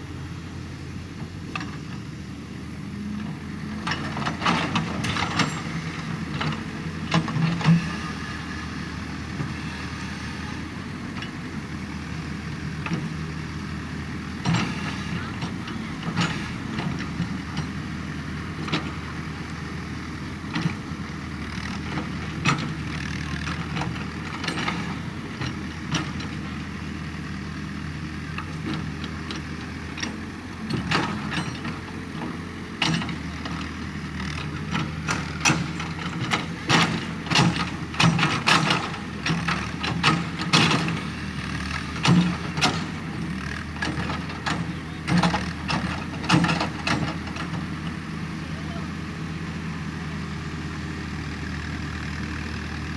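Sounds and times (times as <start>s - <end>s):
excavator engine running: 0.0s - 52.9s.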